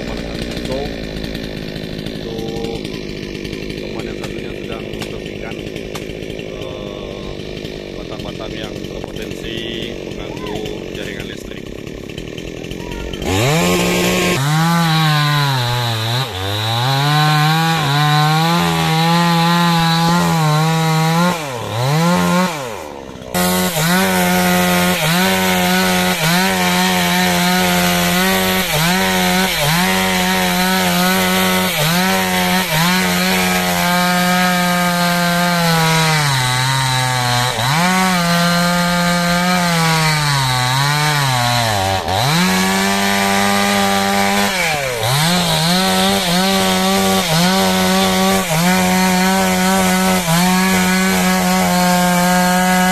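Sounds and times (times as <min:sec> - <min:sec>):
chainsaw cutting tree trunk: 0:00.0 - 0:52.9.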